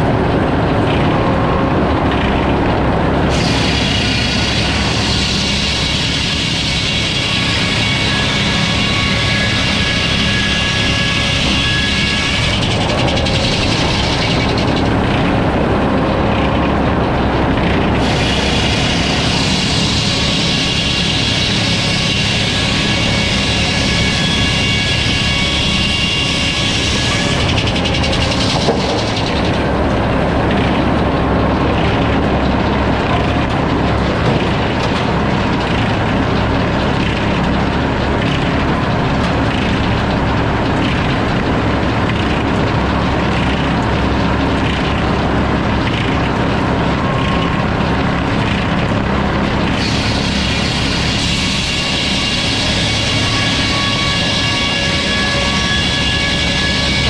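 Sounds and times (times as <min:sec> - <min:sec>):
high machine whine: 0:00.0 - 0:57.0
sawmill machine drone: 0:00.0 - 0:57.0.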